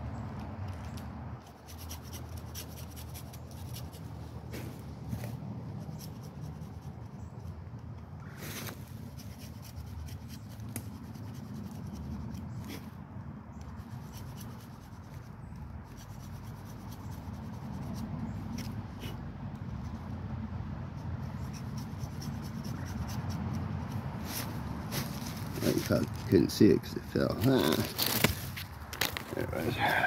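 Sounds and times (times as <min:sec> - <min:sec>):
knife scraping bark: 0:00.8 - 0:07.6, 0:08.2 - 0:20.1, 0:20.9 - 0:26.3.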